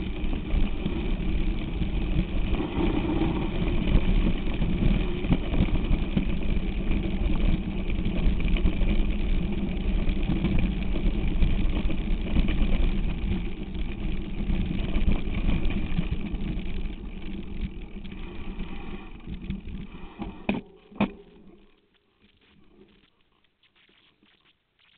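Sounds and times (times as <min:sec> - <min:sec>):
bike tyres rattling over gravel: 0:00.0 - 0:23.1.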